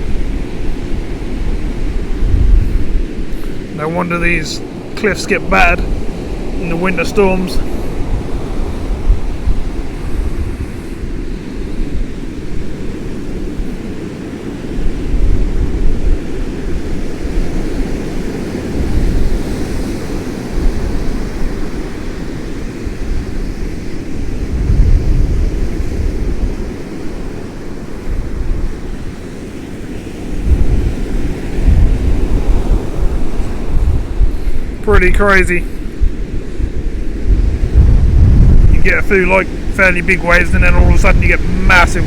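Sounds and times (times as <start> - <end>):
heavy waves breaking: 0.0 - 42.0
wind buffeting microphone: 0.0 - 42.0.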